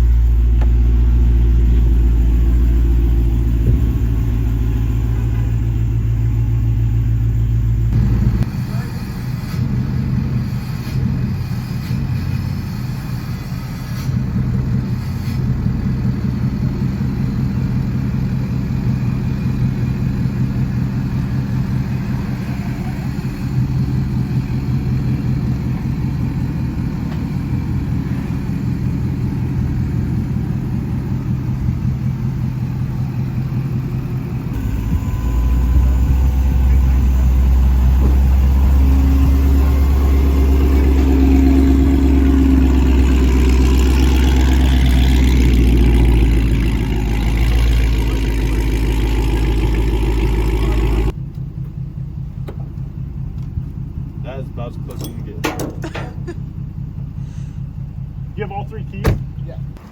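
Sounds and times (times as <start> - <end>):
deep rumble: 0.0 - 8.8, 14.2 - 59.8
car engine running: 0.0 - 13.2, 14.2 - 59.9.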